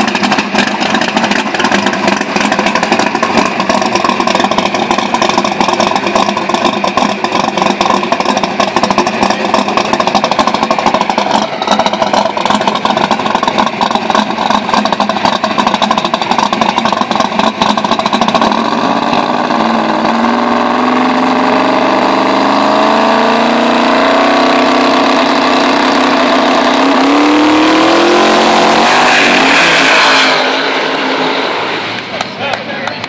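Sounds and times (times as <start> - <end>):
race car engine idling and revving: 0.0 - 33.0.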